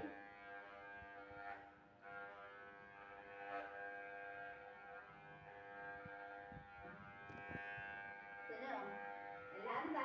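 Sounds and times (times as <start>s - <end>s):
electric hair clipper buzzing: 0.0s - 10.0s.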